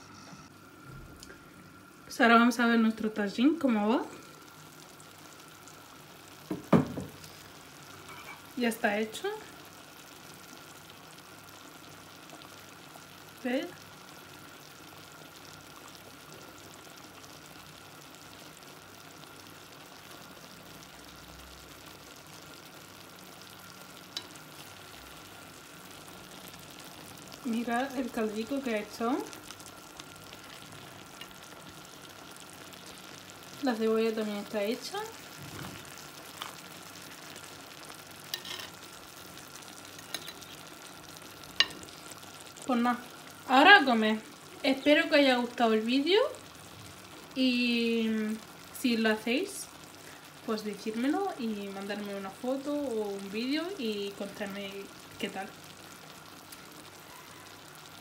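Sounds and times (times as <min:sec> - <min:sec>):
broth sizzling and bubbling: 0:00.0 - 0:58.0.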